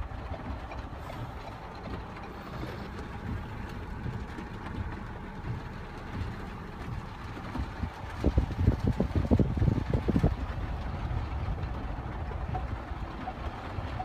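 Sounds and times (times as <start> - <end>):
car engine idling: 0.0 - 14.0
rain on car body: 0.0 - 14.0.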